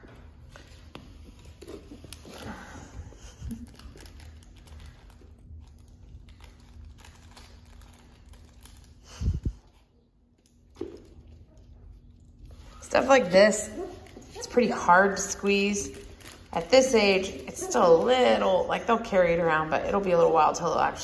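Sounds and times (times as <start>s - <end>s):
crinkle toy rustling: 0.4s - 18.6s.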